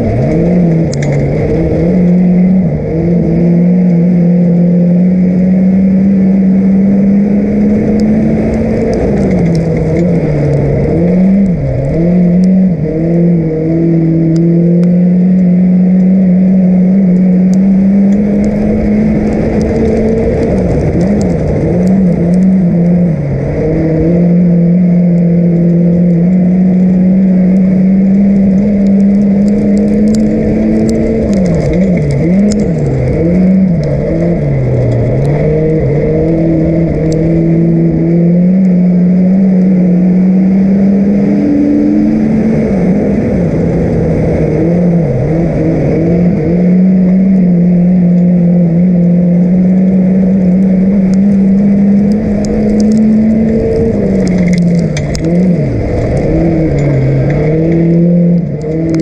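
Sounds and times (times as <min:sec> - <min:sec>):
race car engine from inside cabin: 0:00.0 - 0:59.0.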